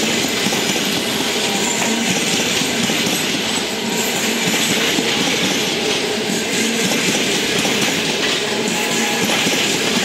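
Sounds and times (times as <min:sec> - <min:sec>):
train wheels clattering on rails: 0:00.0 - 0:10.0.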